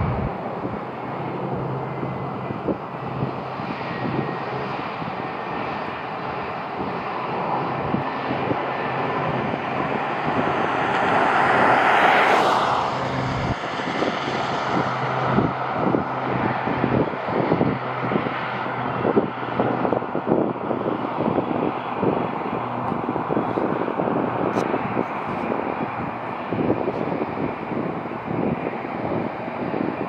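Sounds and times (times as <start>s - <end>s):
jet airliner flying past: 0.0s - 30.0s.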